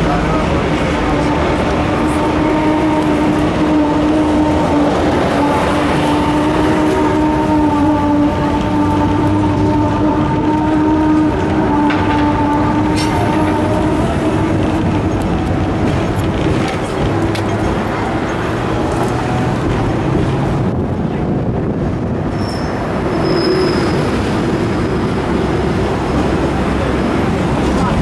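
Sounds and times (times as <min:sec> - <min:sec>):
tram wheels rumbling on rails: 0:00.0 - 0:28.0.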